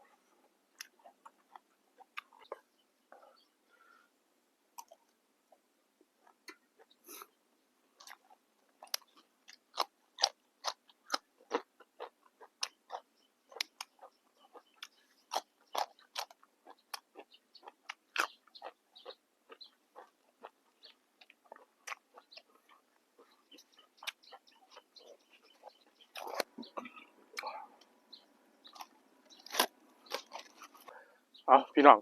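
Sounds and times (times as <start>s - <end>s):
person chewing crunchy vegetables: 0.7s - 2.8s, 4.7s - 5.6s, 6.2s - 7.3s, 7.9s - 31.2s.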